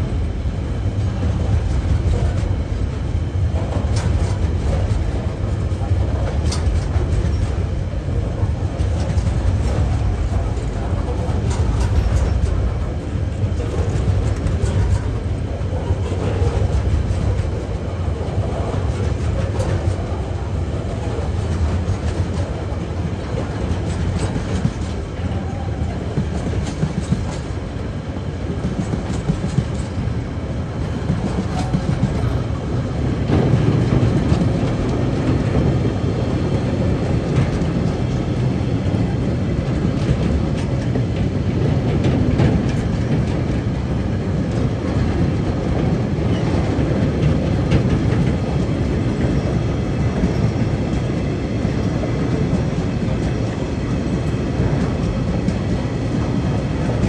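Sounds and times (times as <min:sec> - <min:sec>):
train wheels rumbling on rails: 0:00.0 - 0:57.0
wheels clickety-clack over rail joints: 0:00.0 - 0:57.0.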